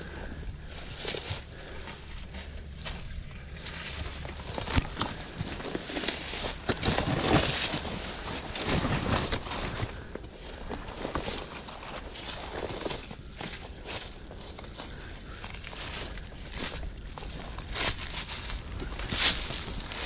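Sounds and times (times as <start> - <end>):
footsteps crunching on stony ground: 0.0 - 20.0.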